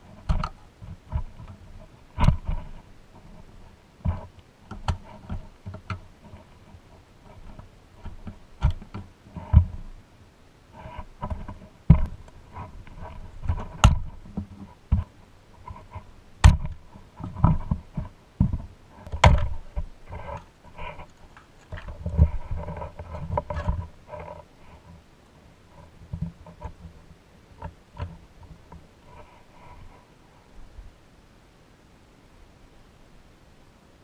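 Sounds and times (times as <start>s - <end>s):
clicks scrapes and rattles: 0.0s - 9.9s, 10.8s - 25.0s, 25.7s - 29.9s.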